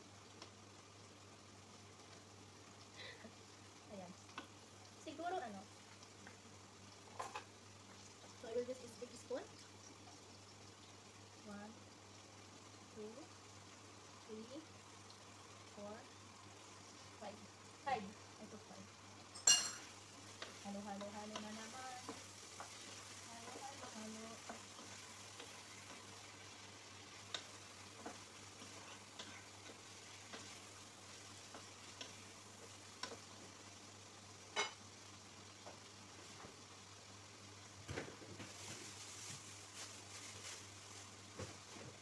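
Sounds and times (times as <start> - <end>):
food sizzling in pot: 0.0 - 42.0.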